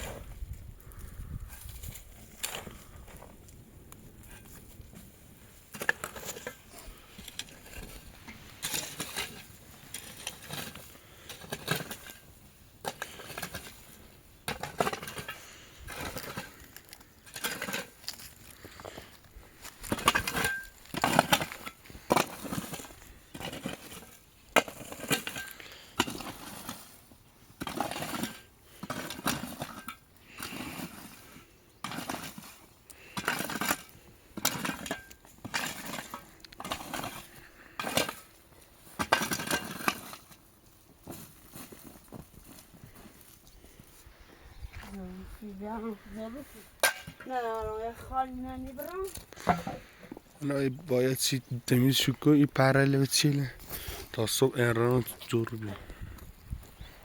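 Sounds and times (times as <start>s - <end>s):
broom sweeping rough ground: 0.0s - 0.6s, 4.2s - 50.2s.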